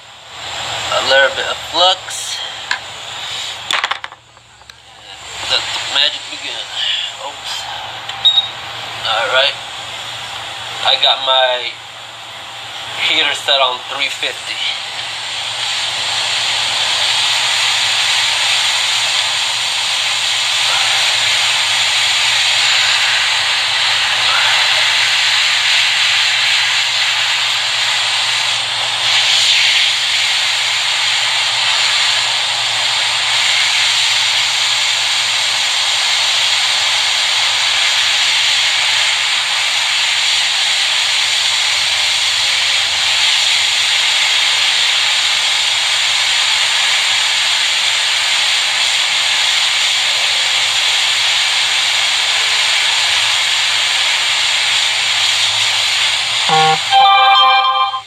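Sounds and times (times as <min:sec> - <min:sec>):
hot air hissing: 0:00.0 - 0:03.8, 0:05.0 - 0:57.1.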